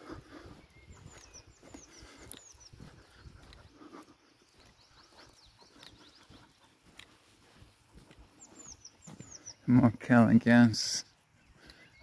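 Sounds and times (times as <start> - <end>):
footsteps on tarmac: 0.0 - 10.1, 11.1 - 12.0
faint songbird chirps: 0.0 - 12.0.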